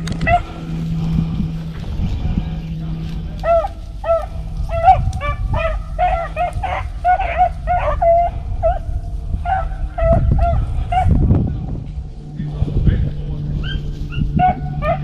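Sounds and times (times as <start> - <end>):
dogs baying: 0.0 - 11.5, 12.1 - 15.0
low wind rumble: 0.0 - 15.0.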